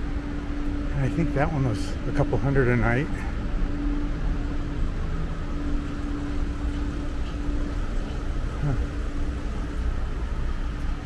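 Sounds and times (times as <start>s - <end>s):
bus engine droning hum: 0.0s - 11.0s
city traffic rumble: 0.0s - 11.0s.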